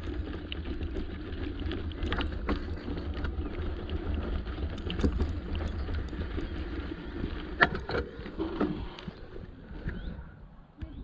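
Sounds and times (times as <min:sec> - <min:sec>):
bicycle rolling noise: 0:00.0 - 0:11.0.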